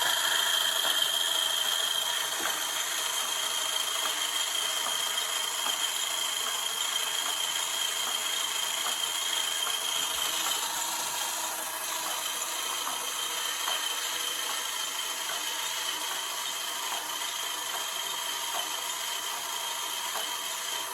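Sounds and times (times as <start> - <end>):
small electric motor whining: 0.0 - 20.9.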